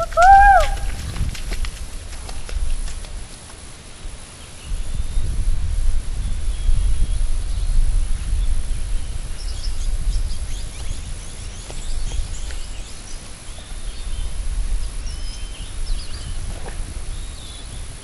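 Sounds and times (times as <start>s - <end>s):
wind buffeting microphone: 0.0s - 3.4s, 4.0s - 18.0s.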